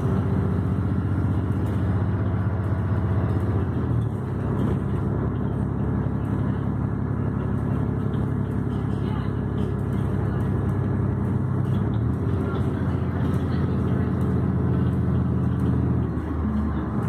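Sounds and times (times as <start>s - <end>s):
bus engine running: 0.0s - 17.0s.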